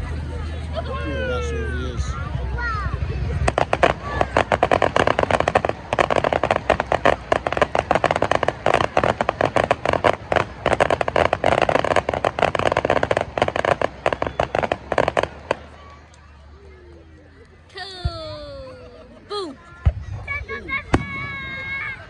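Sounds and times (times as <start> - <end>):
fireworks crackling: 0.0 - 16.8, 17.4 - 22.0.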